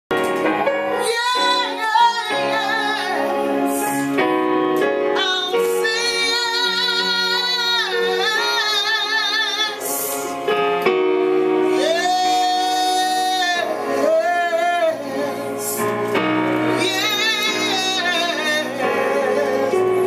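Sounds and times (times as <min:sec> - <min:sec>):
digital keyboard piano: 0:00.1 - 0:20.0
woman singing with vibrato: 0:00.9 - 0:04.2, 0:05.0 - 0:10.4, 0:11.7 - 0:15.9, 0:16.6 - 0:20.0.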